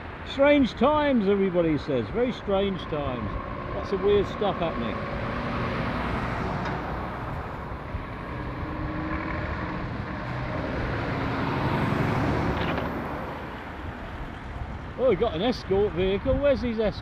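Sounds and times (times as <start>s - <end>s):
lorries driving past: 0.0s - 16.9s.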